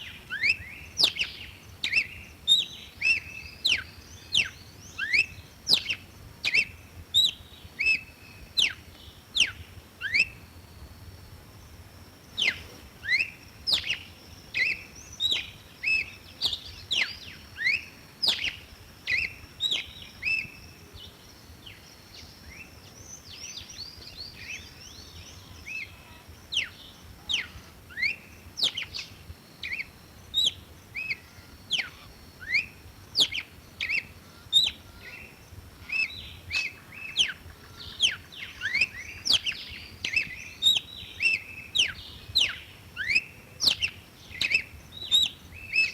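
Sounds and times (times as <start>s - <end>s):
bird whistling song: 0.0s - 10.5s, 12.3s - 45.9s.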